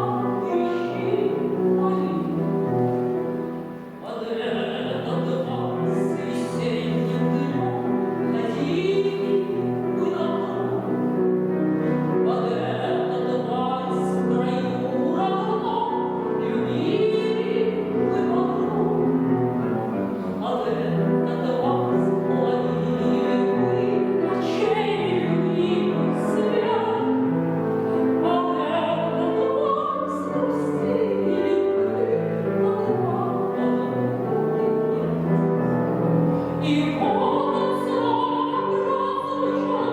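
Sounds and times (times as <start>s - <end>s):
woman singing operatically: 0.0s - 2.7s, 4.0s - 11.1s, 12.2s - 35.5s, 36.5s - 39.9s
grand piano: 0.0s - 39.9s.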